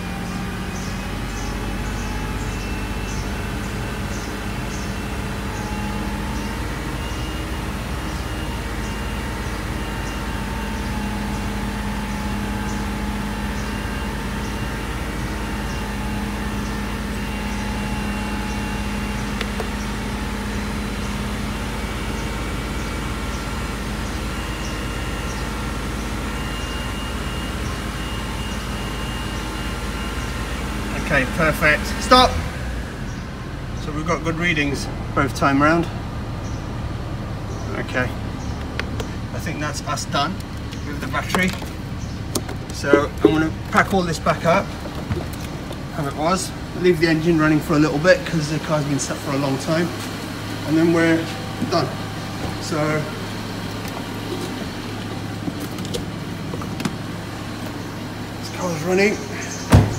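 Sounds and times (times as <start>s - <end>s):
car engine running steadily: 0.0s - 59.9s.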